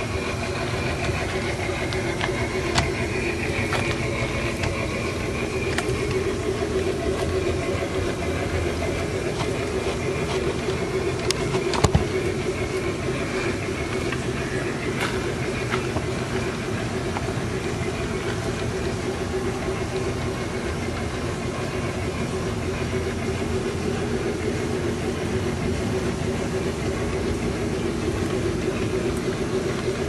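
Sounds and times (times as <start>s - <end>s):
model train motor whirring: 0.0s - 30.0s.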